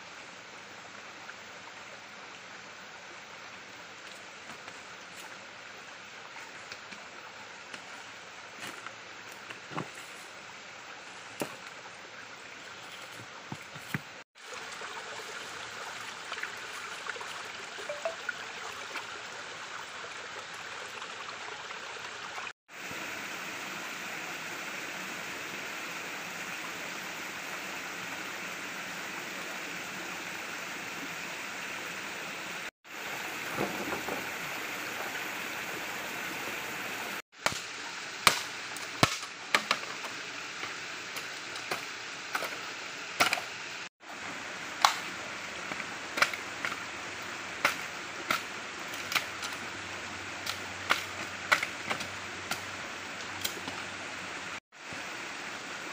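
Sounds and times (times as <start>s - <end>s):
stream flowing over rocks: 0.0s - 55.9s.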